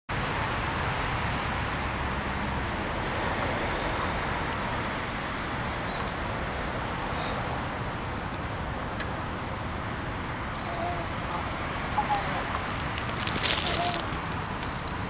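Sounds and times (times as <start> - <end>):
distant road traffic: 0.1 - 15.0.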